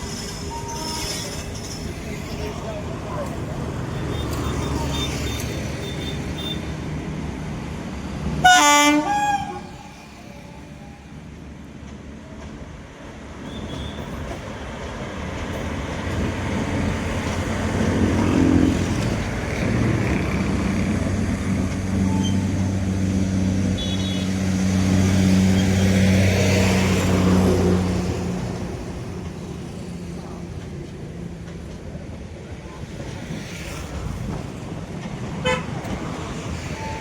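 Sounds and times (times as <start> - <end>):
electric train passing: 0.0 - 37.0.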